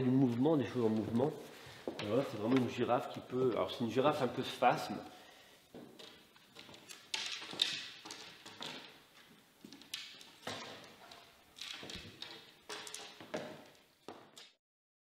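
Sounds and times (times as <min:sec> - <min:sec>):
stick legs tapping on wooden floor: 0:00.2 - 0:04.3, 0:05.7 - 0:14.6.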